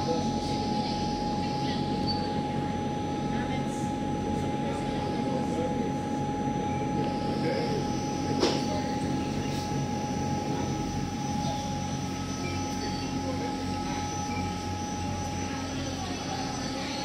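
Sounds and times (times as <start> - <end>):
boat engine droning: 0.0 - 17.0
engine whine: 0.0 - 17.0.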